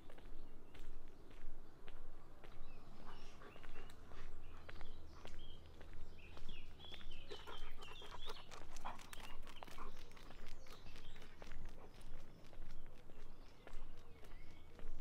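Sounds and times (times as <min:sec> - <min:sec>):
footsteps on a path: 0:00.0 - 0:15.0.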